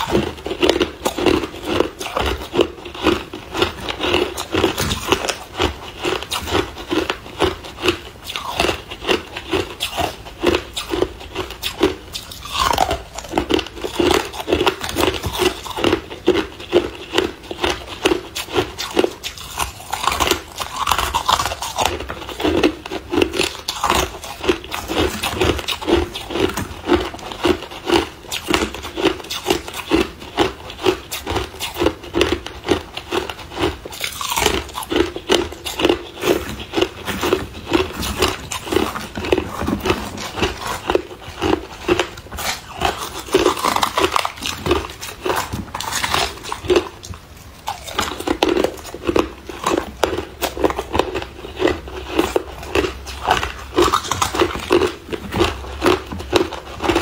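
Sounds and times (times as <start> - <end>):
ice crunching when chewed: 0.0 - 57.0.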